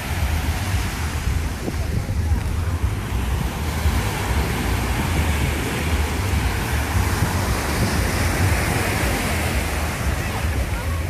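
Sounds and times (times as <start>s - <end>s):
surf breaking on sandy beach: 0.0s - 11.0s
wind buffeting microphone: 0.0s - 11.0s.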